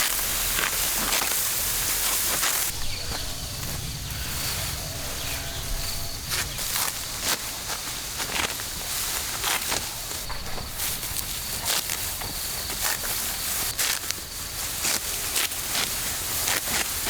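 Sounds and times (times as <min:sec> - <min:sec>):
dry stalks rustling and crunching: 0:00.0 - 0:17.0
high insect buzz: 0:00.0 - 0:17.0.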